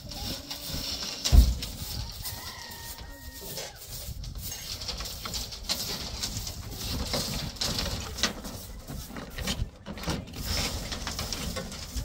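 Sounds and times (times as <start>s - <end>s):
broom sweeping metal floor: 0.0s - 12.0s.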